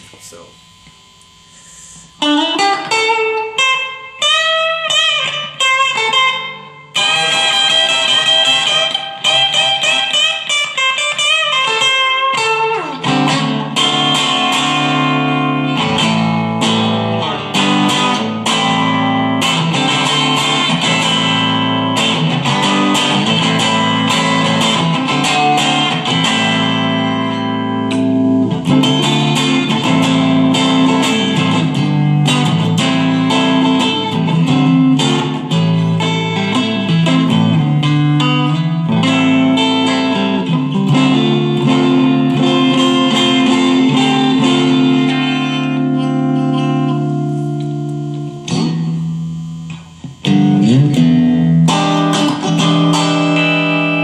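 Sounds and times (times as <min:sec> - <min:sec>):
overdriven electric guitar: 0:00.0 - 0:54.0.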